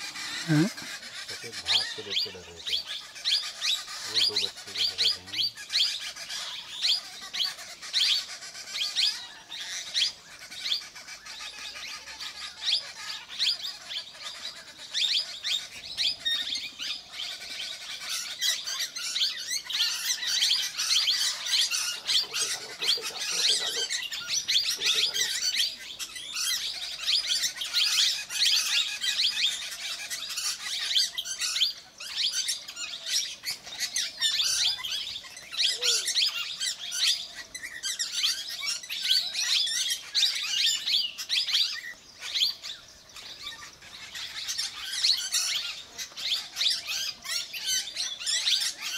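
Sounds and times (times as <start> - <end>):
parakeets chirping and squawking: 0.0 - 48.9.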